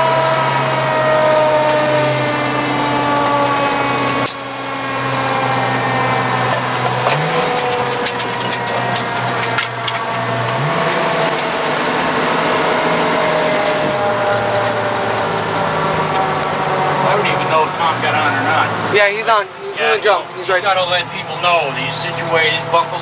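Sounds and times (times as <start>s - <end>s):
fire engine running from inside cab: 0.0s - 23.0s.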